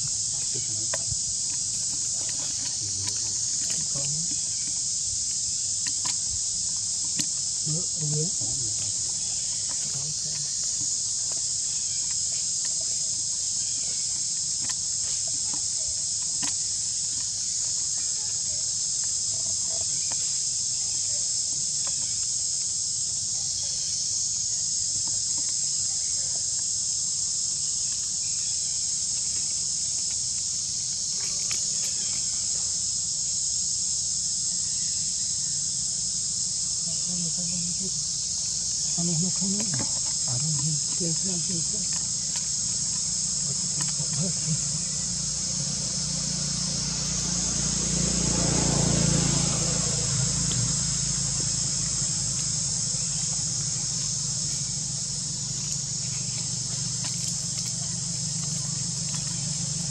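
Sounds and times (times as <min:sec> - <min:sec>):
insect chorus drone: 0:00.0 - 0:59.9.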